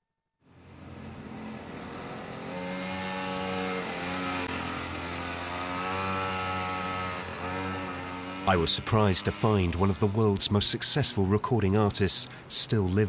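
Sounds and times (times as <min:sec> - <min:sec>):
vehicle engine running: 0:00.4 - 0:13.0.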